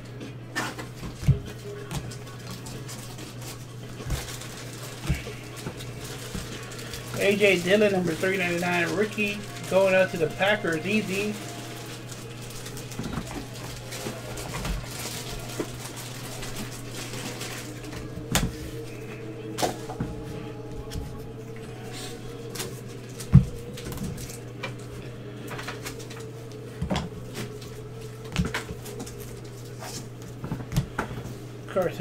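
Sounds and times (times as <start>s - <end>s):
low hum: 0.0s - 32.0s
plastic wrapper crinkling: 0.6s - 31.1s.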